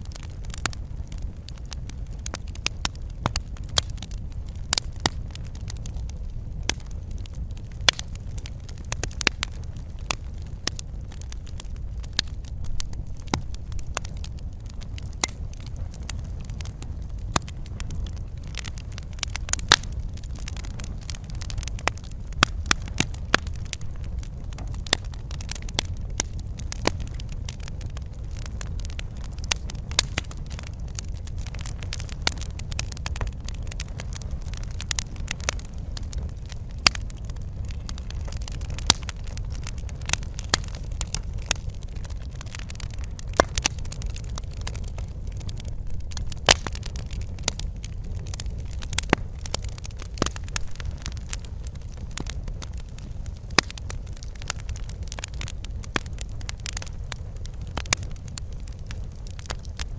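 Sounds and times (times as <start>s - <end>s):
fire crackling and popping: 0.0s - 59.9s
fire low rumble: 0.0s - 59.9s.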